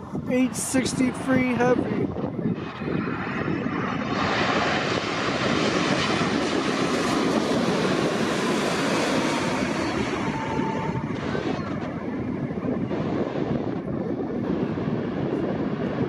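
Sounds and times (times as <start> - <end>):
faint engine whine: 0.0 - 16.0
jet airliner passing overhead: 0.0 - 16.0.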